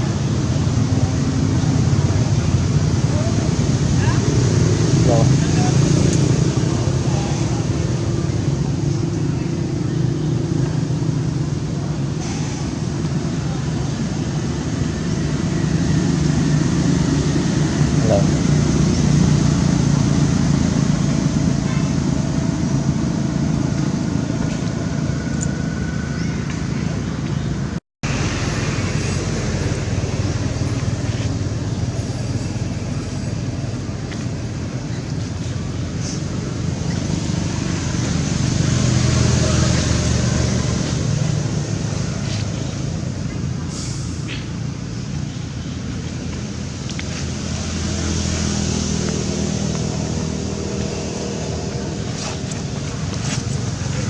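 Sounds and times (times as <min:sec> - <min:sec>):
traffic hiss: 0:00.0 - 0:54.0
vehicle engine running: 0:00.0 - 0:54.0.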